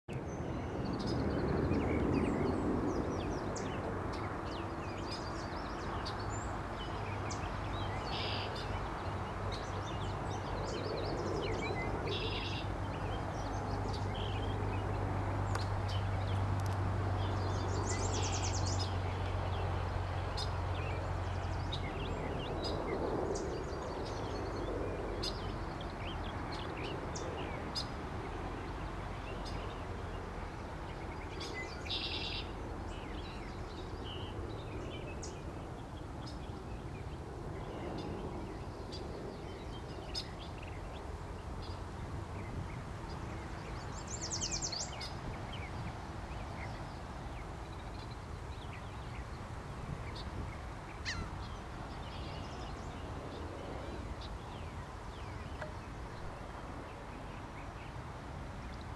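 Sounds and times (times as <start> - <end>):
songbirds chirping and trilling: 0.1 - 58.9.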